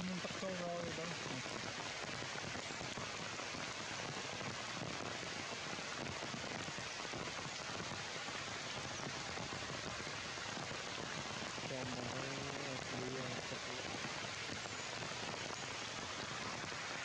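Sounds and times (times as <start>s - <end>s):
heavy rain on leaves: 0.0s - 17.0s.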